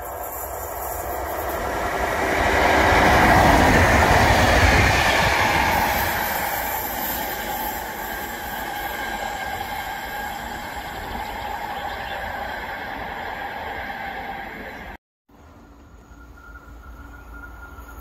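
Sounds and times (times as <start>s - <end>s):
train wheel squeal: 0.0s - 15.0s, 15.8s - 18.0s
train rumble and wheel noise: 0.0s - 18.0s.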